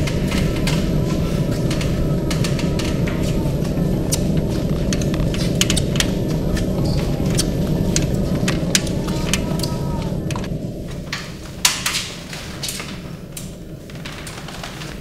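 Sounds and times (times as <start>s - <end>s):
caster wheels rumbling: 0.0s - 15.0s.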